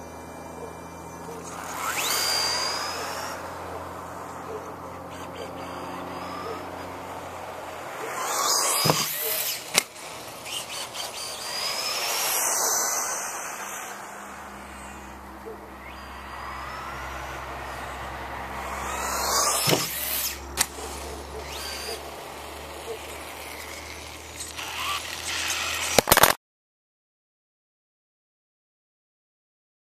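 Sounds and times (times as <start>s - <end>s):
toy truck electric motor whining: 0.0s - 26.4s.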